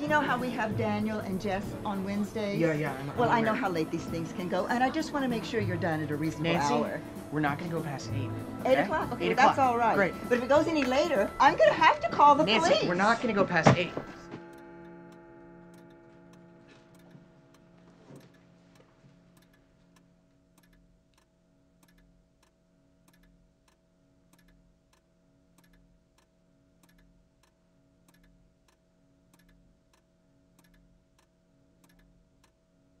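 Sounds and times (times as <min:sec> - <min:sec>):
clock ticking: 0:00.0 - 0:32.6
low hum: 0:00.0 - 0:33.0.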